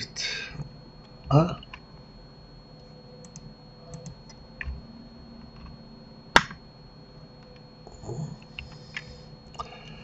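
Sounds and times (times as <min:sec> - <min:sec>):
faint electrical whine: 0:00.0 - 0:10.0.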